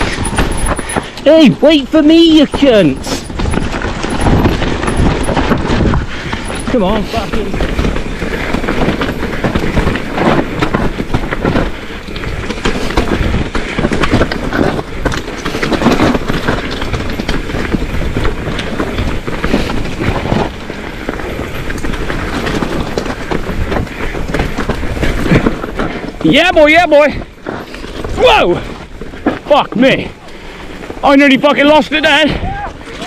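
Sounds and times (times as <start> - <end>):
bike rattling over rough ground: 0.0 - 33.0
tyre noise on dirt: 0.0 - 33.0.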